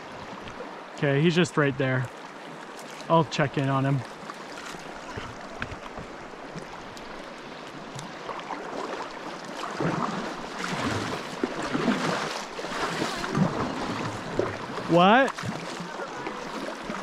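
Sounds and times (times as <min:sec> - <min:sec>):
water splashing and rushing: 0:00.0 - 0:17.0
paddle strokes: 0:02.0 - 0:17.0.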